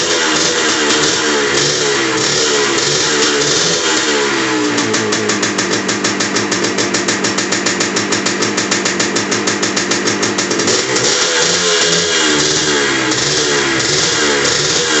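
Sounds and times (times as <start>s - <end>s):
two-stroke motorcycle engine idling: 0.0s - 15.0s.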